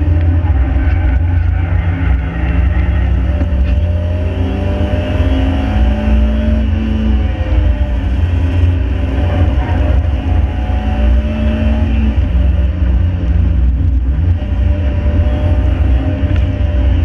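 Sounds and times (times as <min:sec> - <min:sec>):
car engine pulling hard: 0:00.0 - 0:17.0
road and wind rumble: 0:00.0 - 0:17.0.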